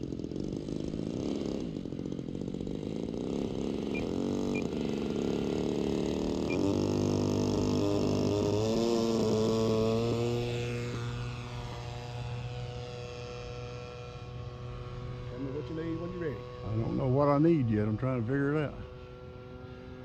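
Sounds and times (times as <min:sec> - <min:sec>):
model airplane engine revving: 0:00.0 - 0:20.0.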